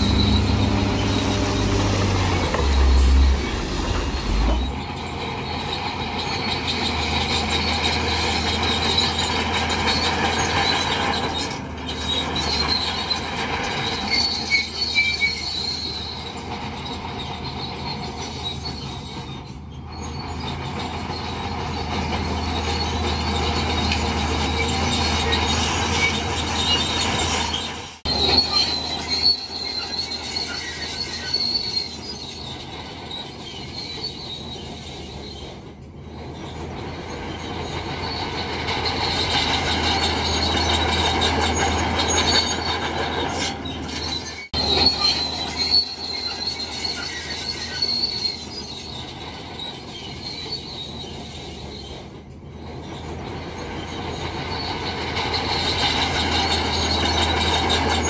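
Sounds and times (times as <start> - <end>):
bulldozer diesel engine under load: 0.0 - 58.0
steel tracks squealing and grinding: 0.0 - 58.0.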